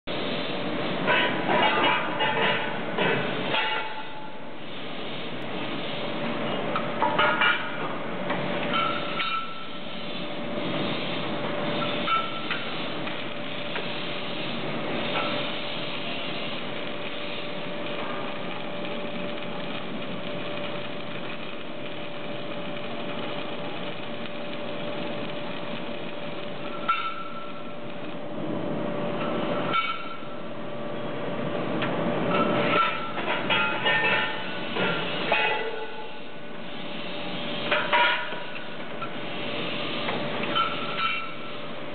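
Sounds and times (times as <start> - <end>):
arc welding hiss: 0.1 - 28.4, 32.5 - 41.9
steady machine hum: 0.1 - 41.9.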